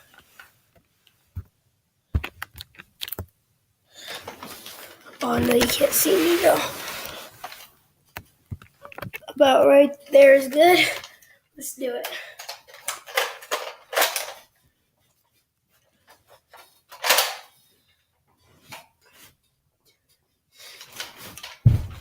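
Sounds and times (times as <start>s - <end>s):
rustling and handling noises: 0.0s - 3.4s, 4.0s - 9.4s, 10.2s - 22.0s.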